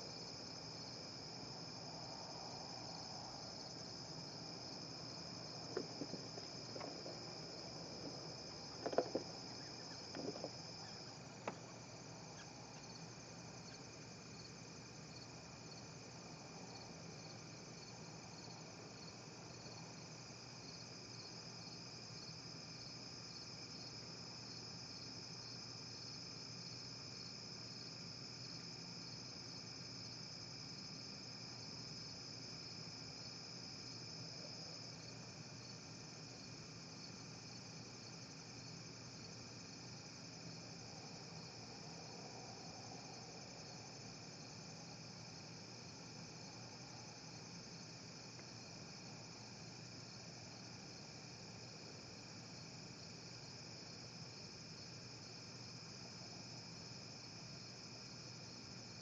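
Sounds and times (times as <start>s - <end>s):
insects trilling: 0.0s - 27.4s, 28.0s - 53.8s
pulsing insect chirp: 0.0s - 59.0s.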